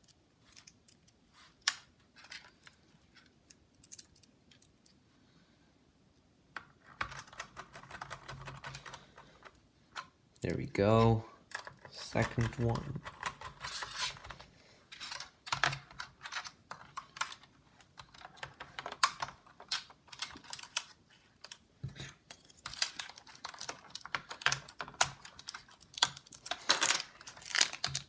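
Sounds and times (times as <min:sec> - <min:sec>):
laptop parts clicking and rattling: 0:00.0 - 0:05.0, 0:06.6 - 0:10.2, 0:11.5 - 0:28.0.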